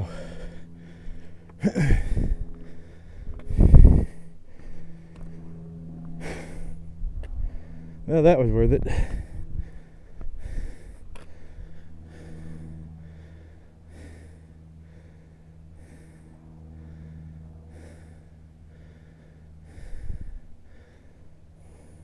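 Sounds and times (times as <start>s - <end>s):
person breathing hard: 0.0s - 8.1s, 8.8s - 22.0s.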